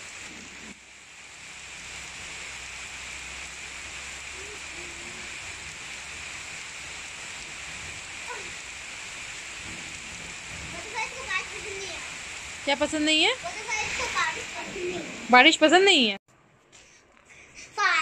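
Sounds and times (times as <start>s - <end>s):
heavy rain on paving and foliage: 0.0s - 15.9s.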